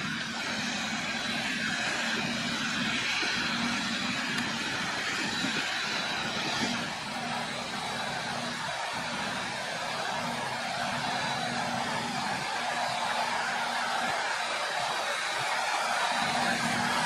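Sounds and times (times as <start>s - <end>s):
tractor running: 0.0s - 17.0s.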